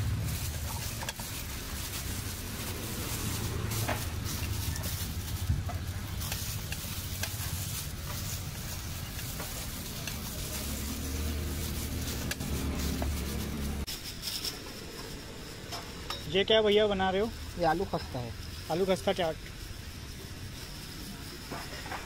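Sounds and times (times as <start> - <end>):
gloved hand mixing food: 0.0 - 14.0, 16.6 - 21.5.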